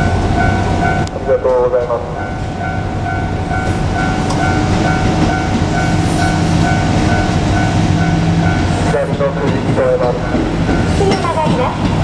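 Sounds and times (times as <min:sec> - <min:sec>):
level crossing bell ringing: 0:00.0 - 0:11.3
diesel railcar engine hum: 0:00.0 - 0:12.0.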